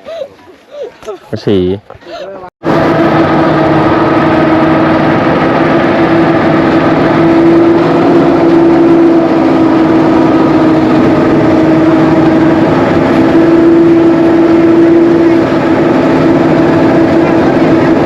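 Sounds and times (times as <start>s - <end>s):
rice thresher engine running: 2.6s - 18.0s.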